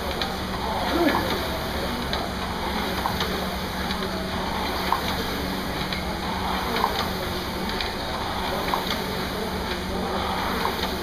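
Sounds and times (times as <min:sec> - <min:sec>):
rowing machine flywheel whooshing: 0:00.1 - 0:11.0.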